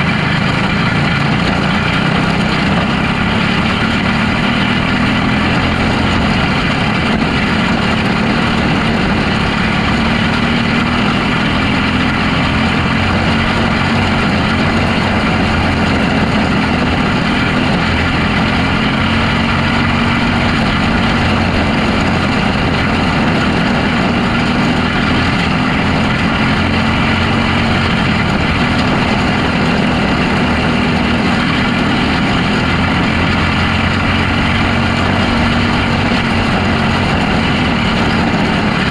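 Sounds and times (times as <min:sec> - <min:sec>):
race car engine running: 0:00.0 - 0:38.9
rushing wind: 0:00.0 - 0:38.9
track noise: 0:00.0 - 0:38.9.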